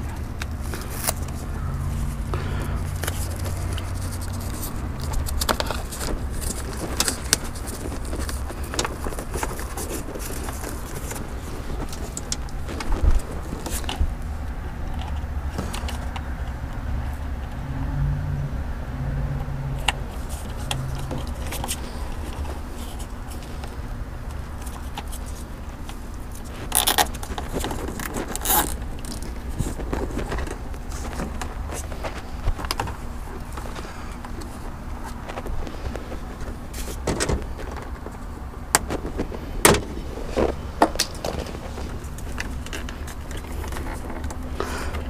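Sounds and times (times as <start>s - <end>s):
hands handling plastic parts: 0.0s - 17.6s, 19.8s - 45.0s
steady low rumble: 0.0s - 45.0s.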